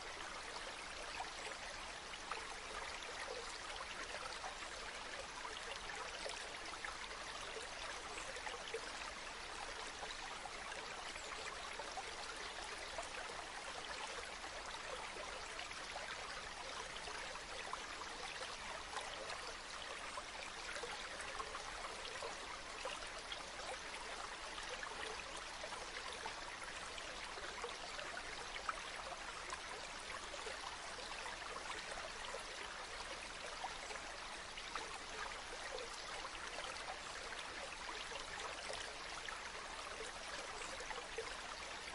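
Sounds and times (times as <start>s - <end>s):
stream babbling and trickling: 0.0s - 41.9s.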